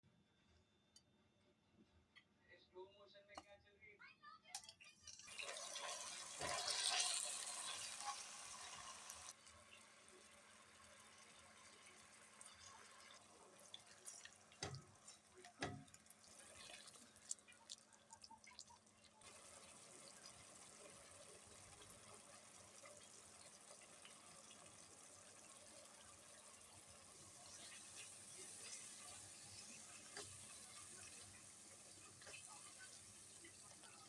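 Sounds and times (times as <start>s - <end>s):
water running: 5.0s - 34.0s.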